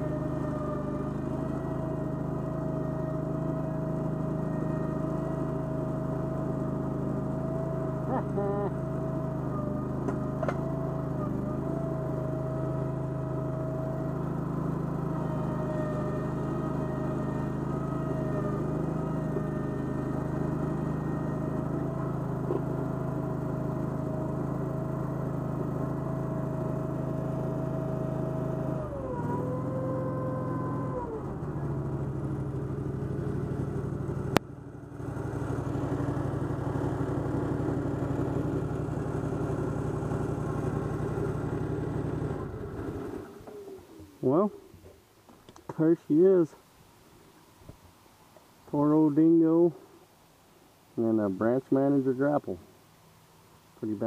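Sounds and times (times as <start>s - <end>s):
small loader engine running: 0.0s - 46.6s.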